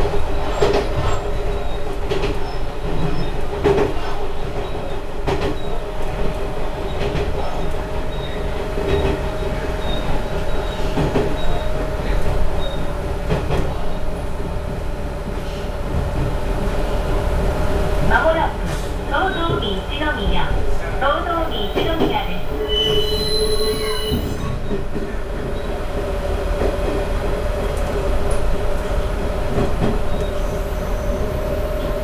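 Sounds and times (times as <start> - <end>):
railcar engine drone: 0.0 - 32.0.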